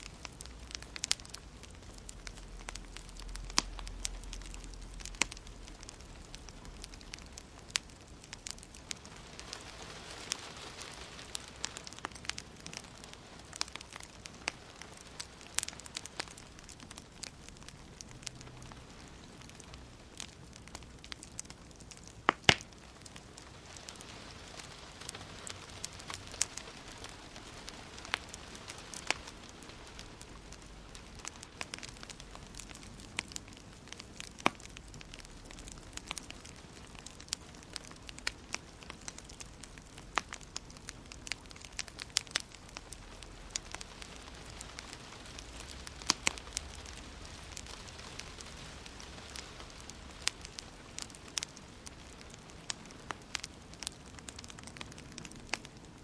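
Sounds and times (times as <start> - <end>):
soft fire hiss: 0.0 - 56.0
wood fire crackling and popping: 0.0 - 56.0.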